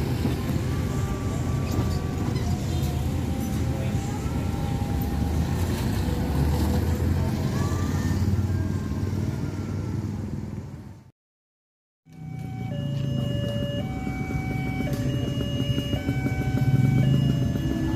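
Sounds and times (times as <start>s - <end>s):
vehicle engines driving past: 0.0s - 11.1s, 12.1s - 17.9s.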